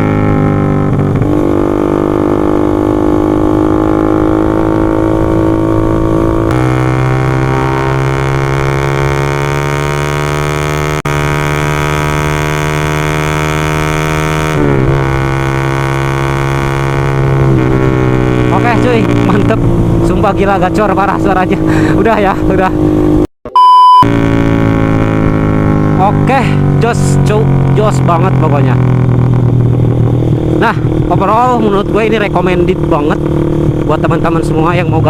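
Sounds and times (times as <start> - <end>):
motorcycle engine droning exhaust: 0.0 - 23.3, 24.0 - 35.0.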